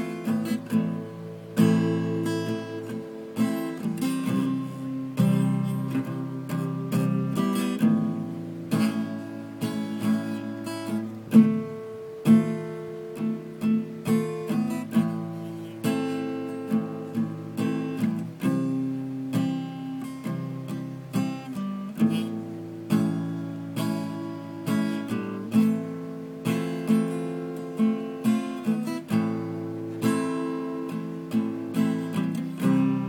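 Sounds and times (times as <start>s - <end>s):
acoustic guitar strumming chords: 0.0s - 33.0s.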